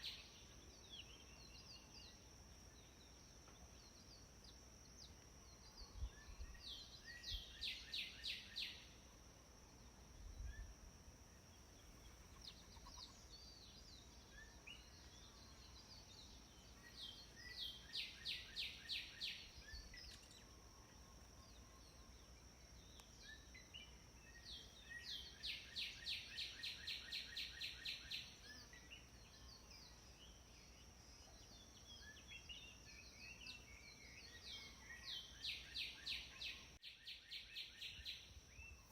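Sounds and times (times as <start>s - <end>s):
bird chirps: 0.0s - 9.0s, 11.8s - 38.9s.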